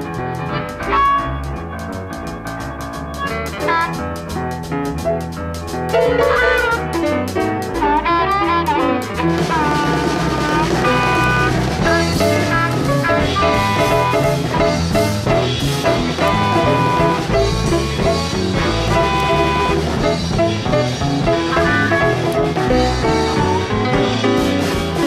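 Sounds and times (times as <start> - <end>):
music with drum beat and bass: 0.0 - 25.0.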